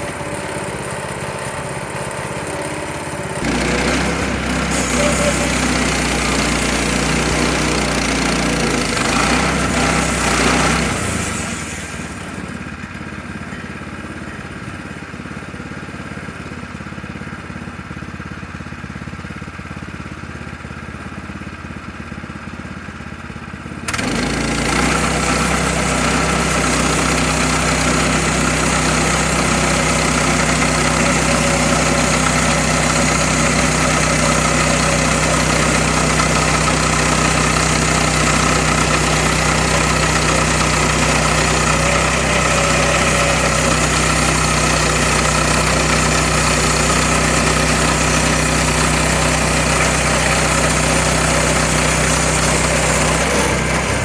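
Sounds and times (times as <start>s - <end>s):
small gasoline engine running: 0.0s - 54.0s.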